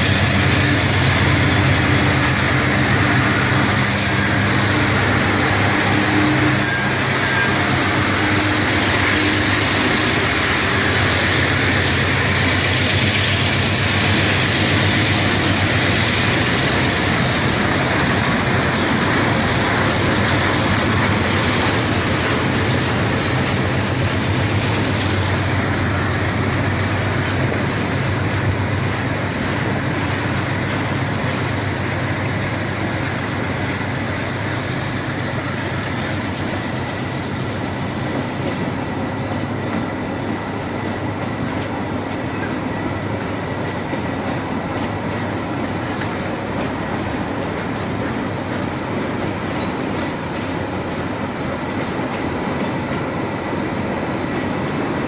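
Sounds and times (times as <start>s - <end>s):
diesel locomotive engines droning: 0.0s - 55.0s
train wheels rolling on rails: 0.0s - 55.0s.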